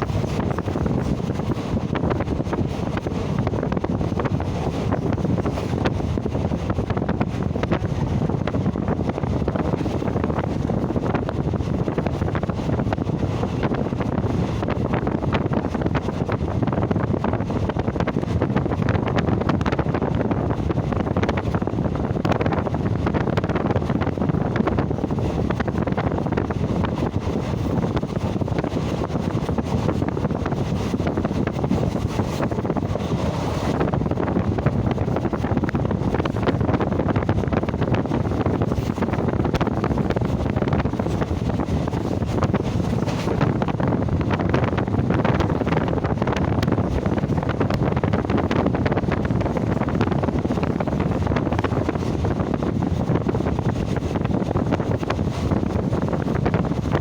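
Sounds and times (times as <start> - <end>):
moving train rumble: 0.0 - 57.0
wind buffeting microphone: 0.0 - 57.0.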